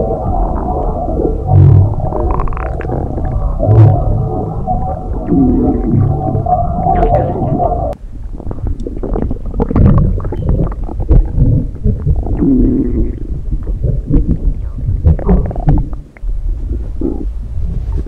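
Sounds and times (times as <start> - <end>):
stomach rumbling and gurgling: 0.0 - 18.0.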